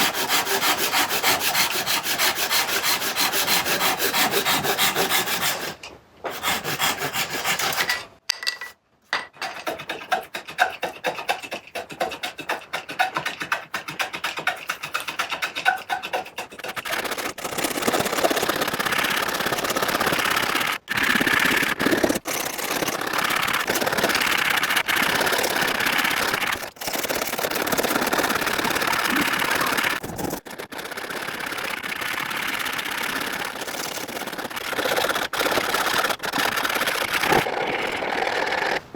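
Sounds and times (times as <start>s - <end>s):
sanding wood by hand: 0.0s - 7.9s, 9.6s - 37.5s.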